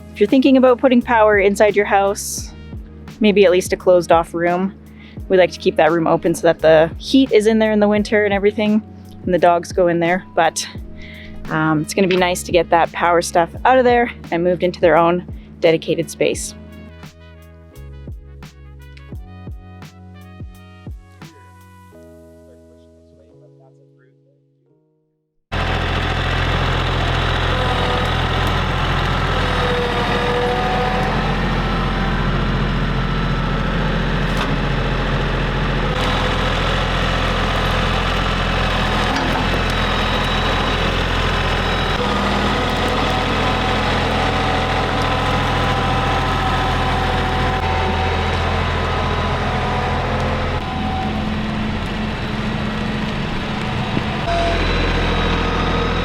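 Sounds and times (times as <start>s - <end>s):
tractor engine running: 0.0s - 16.9s, 25.5s - 56.0s.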